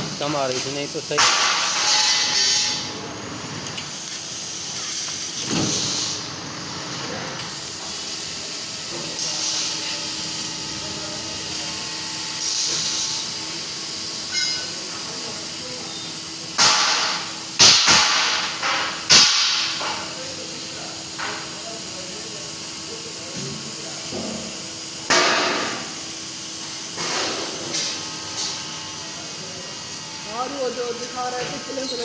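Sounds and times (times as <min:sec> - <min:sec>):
cutting torch hissing: 0:00.0 - 0:02.8, 0:03.8 - 0:06.3, 0:07.4 - 0:32.0
faint machine hum: 0:00.0 - 0:32.0.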